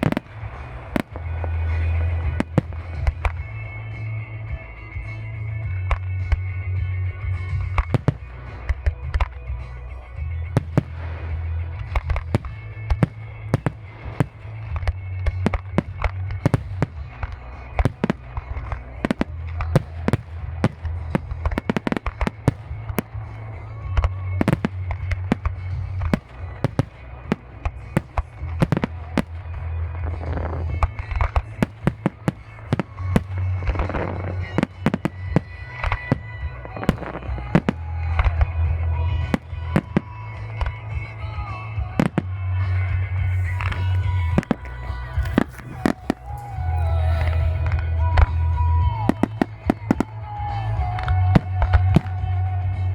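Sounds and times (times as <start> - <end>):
fireworks bangs: 0.0 - 52.9
music with heavy bass: 0.0 - 52.9.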